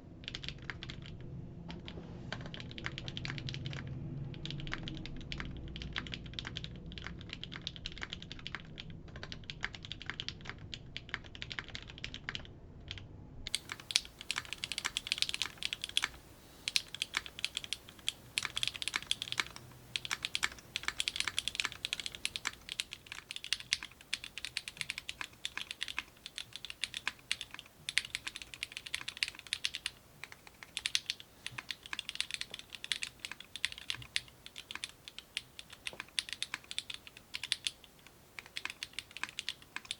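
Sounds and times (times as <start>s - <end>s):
mechanical keyboard clacking: 0.2s - 39.9s.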